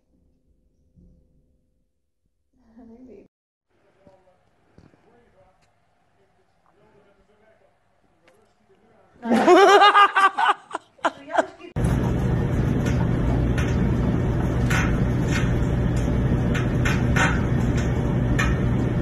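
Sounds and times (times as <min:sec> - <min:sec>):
steady low hum: 0:03.1 - 0:19.0.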